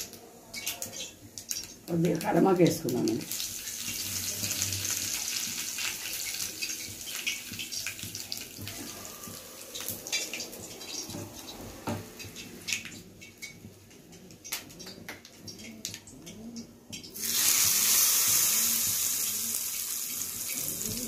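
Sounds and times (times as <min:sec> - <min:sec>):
spices sizzling in hot oil: 0:00.0 - 0:13.6, 0:17.0 - 0:21.0.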